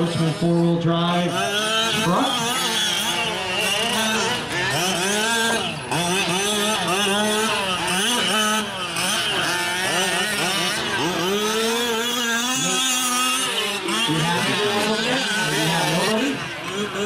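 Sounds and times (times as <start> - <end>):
small two-stroke engines racing: 0.0 - 17.0.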